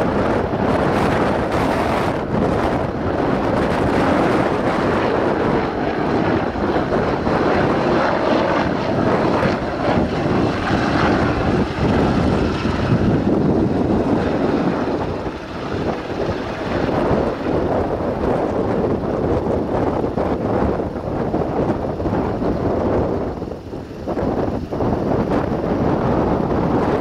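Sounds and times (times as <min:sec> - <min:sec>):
helicopter rotor and turbine noise: 0:00.0 - 0:27.0
wind buffeting microphone: 0:00.0 - 0:27.0.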